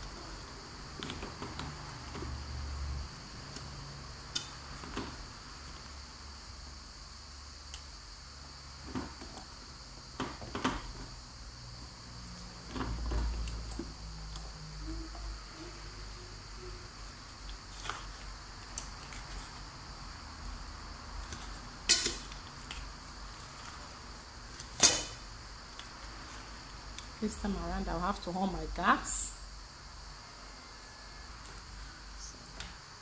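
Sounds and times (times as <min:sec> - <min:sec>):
high-pitched hiss: 0:01.8 - 0:33.0.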